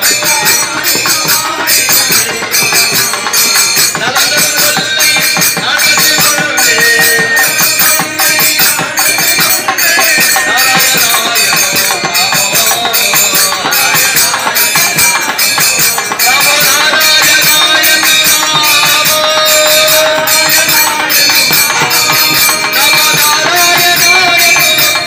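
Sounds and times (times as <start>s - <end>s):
jingling hand percussion: 0.0s - 25.0s
voices singing devotional song: 0.0s - 25.0s.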